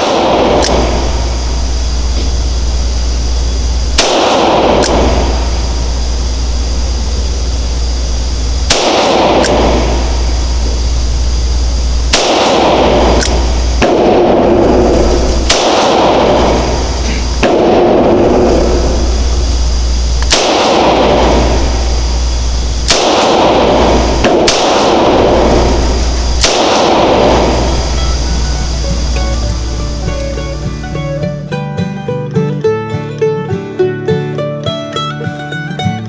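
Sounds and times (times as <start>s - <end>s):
revolver gunshots: 0.0s - 30.0s
loud background noise: 0.0s - 31.9s.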